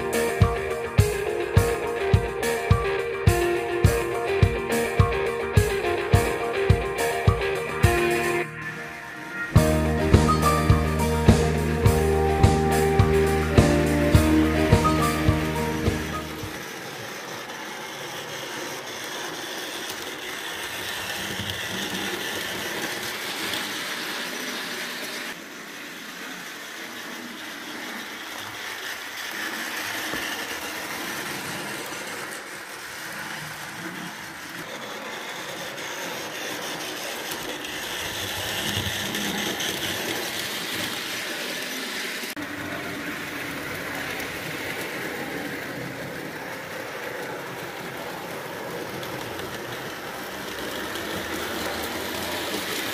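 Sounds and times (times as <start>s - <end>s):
model trains whirring on track: 0.0s - 52.9s.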